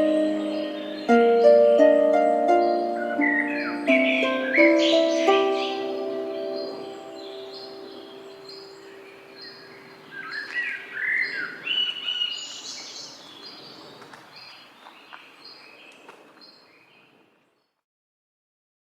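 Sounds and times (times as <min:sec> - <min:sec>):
songbirds chirping and singing: 0:00.0 - 0:17.2.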